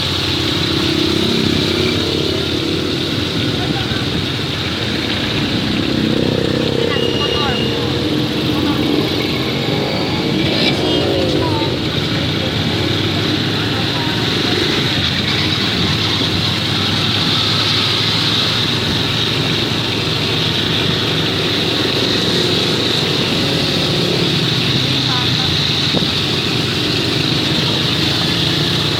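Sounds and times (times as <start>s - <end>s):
road and wind noise: 0.0s - 28.9s
vehicle engine running: 0.0s - 28.9s.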